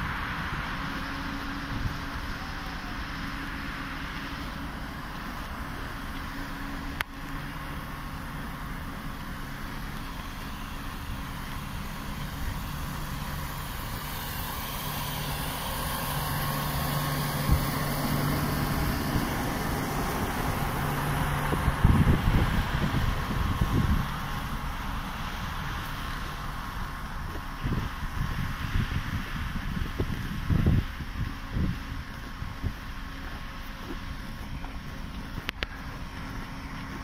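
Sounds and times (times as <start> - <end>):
electric train equipment humming: 0.0 - 37.0.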